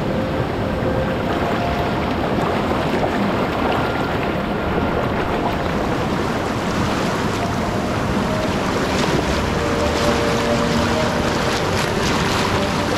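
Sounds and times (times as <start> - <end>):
river rapids rushing over rocks: 0.0 - 12.9.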